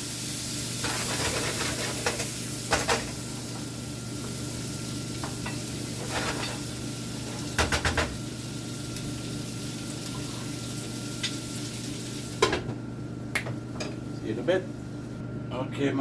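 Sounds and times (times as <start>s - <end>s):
food sizzling in frying pan: 0.0s - 15.2s
steady low hum: 0.0s - 16.0s.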